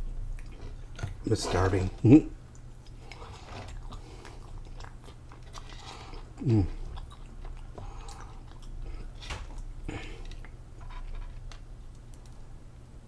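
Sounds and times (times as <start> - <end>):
person chewing food: 0.0 - 12.5.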